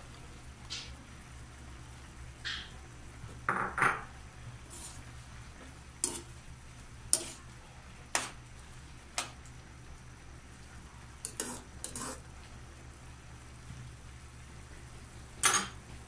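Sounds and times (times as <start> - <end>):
faint sizzle of sauce: 0.0 - 16.0.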